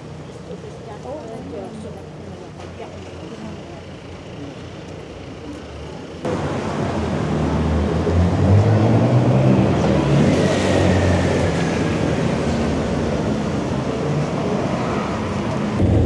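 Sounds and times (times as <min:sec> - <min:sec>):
vehicle engine droning: 0:03.0 - 0:16.0.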